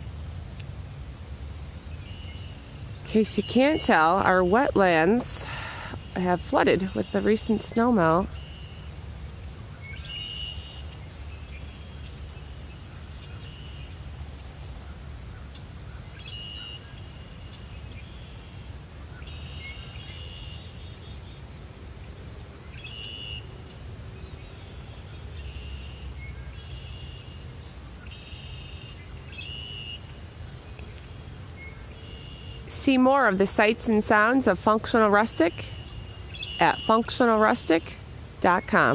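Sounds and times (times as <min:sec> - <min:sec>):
birds calling and singing: 0:01.5 - 0:38.9.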